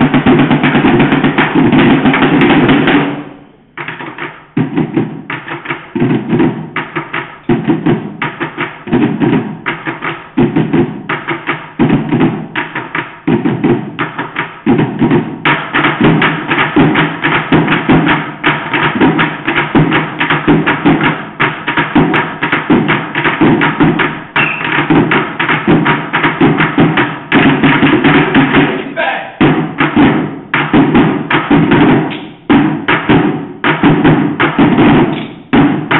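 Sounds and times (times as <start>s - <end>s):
drumming on buckets with sticks: 0.0s - 35.9s.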